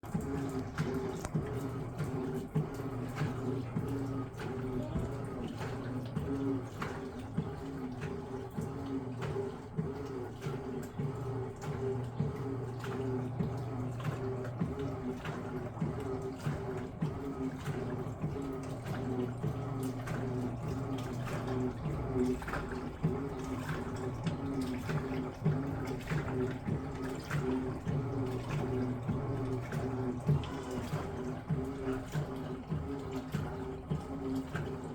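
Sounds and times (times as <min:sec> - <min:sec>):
washing machine motor hum: 0:00.0 - 0:34.9
water sloshing and splashing: 0:00.0 - 0:34.9.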